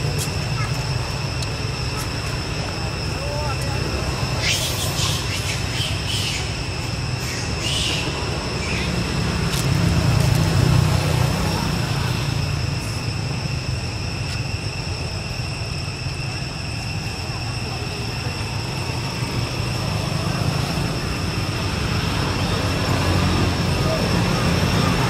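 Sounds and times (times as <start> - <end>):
high-pitched whine: 0.0 - 25.0.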